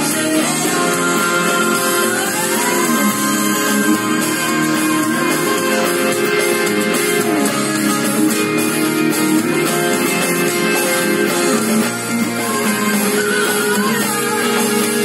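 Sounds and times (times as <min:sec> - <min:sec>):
electric guitar solo: 0:00.0 - 0:15.0.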